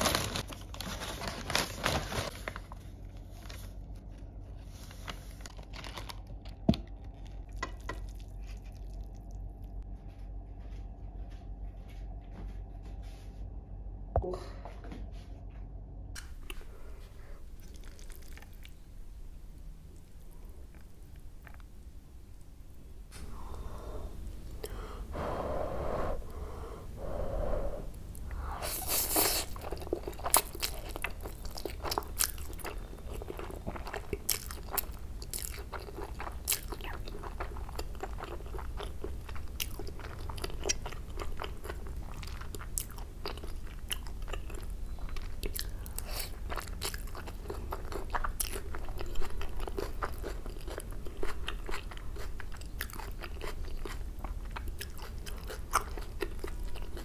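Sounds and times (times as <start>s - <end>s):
crunchy chewing: 2.6s - 12.6s, 16.3s - 19.0s, 19.6s - 21.9s, 24.4s - 57.0s.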